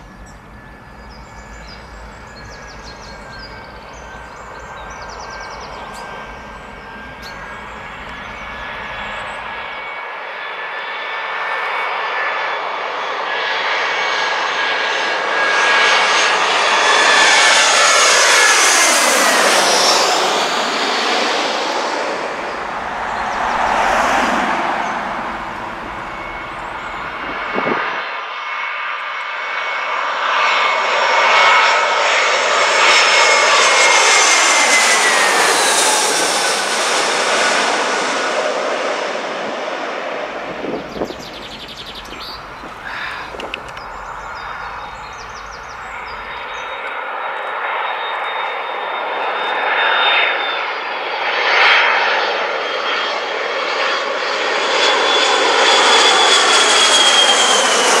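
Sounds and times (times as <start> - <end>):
jet airliner passing overhead: 0.0 - 58.0.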